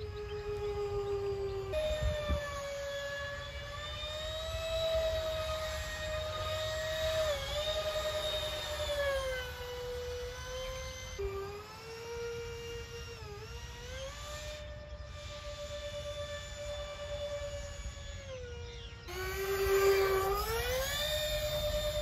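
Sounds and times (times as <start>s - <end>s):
model jet electric fans whining: 0.0s - 22.0s.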